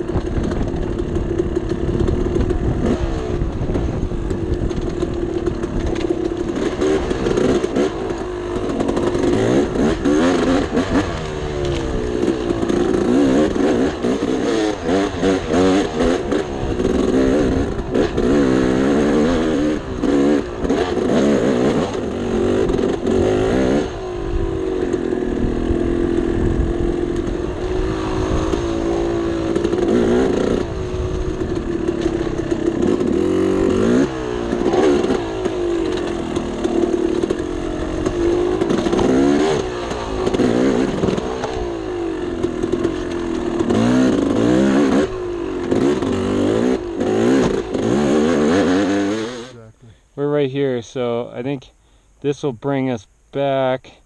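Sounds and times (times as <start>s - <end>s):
dirt bike engine revving: 0.0s - 51.7s.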